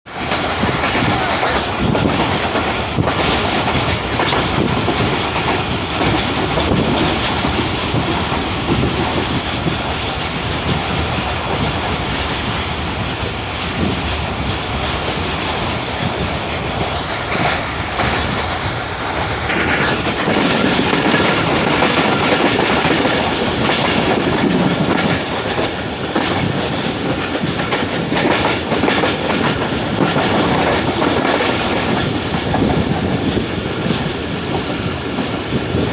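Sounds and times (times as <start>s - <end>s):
train wheels on rails: 0.1s - 35.9s.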